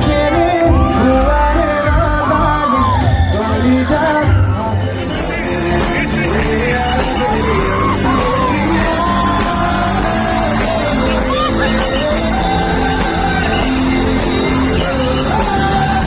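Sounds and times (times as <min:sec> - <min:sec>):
band playing: 0:00.0 - 0:16.0
person singing: 0:00.0 - 0:16.0
crowd yelling: 0:00.7 - 0:16.0.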